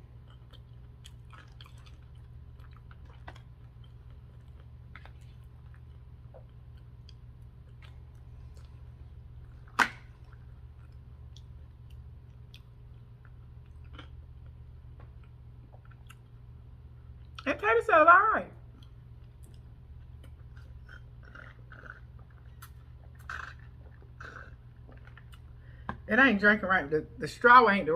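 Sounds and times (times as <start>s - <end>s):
close chewing of food: 0.0s - 17.5s, 18.7s - 25.9s
steady low hum: 0.0s - 27.9s.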